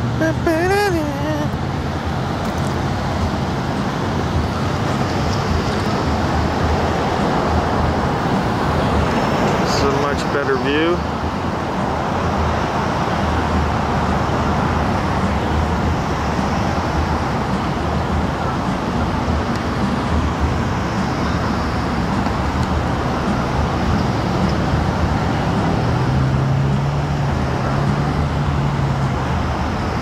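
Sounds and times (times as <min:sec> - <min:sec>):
vehicles driving past: 0:00.0 - 0:30.0.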